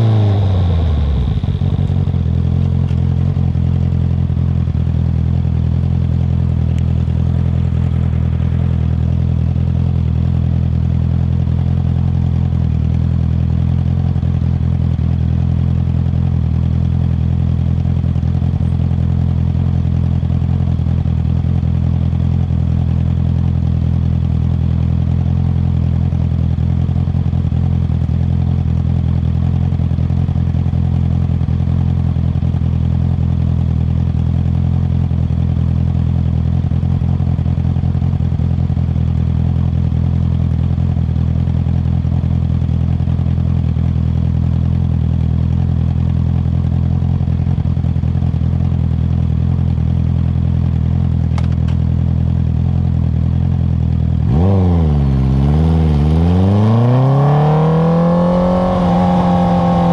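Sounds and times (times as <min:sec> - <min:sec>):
motorcycle engine idling: 0:00.0 - 0:56.2, 0:57.6 - 0:59.9.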